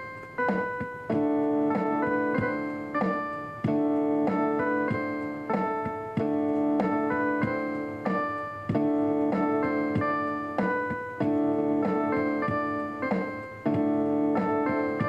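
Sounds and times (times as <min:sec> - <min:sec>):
gentle electric piano chords: 0:00.0 - 0:15.0.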